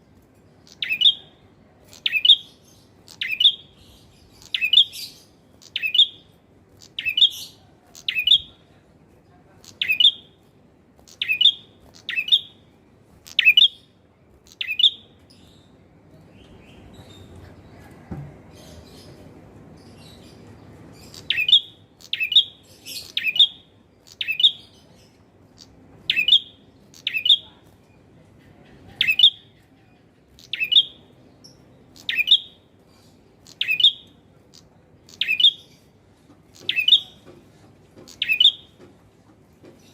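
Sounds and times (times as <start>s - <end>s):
bird chirping: 0.0s - 8.7s, 9.5s - 10.4s, 11.0s - 38.9s.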